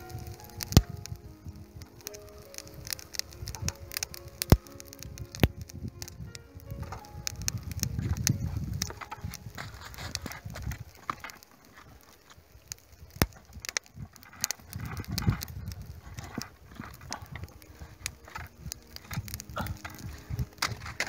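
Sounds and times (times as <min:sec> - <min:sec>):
charcoal fire crackling and popping: 0:00.0 - 0:21.0
low rumbling: 0:00.0 - 0:21.0.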